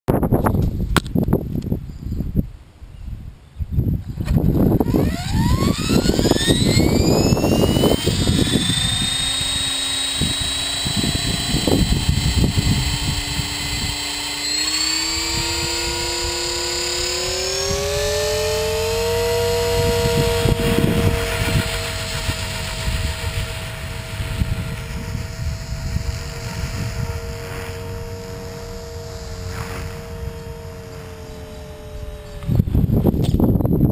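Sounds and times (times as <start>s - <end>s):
wind rumble on microphone: 0.1s - 33.9s
rc helicopter motor whine: 4.0s - 33.9s.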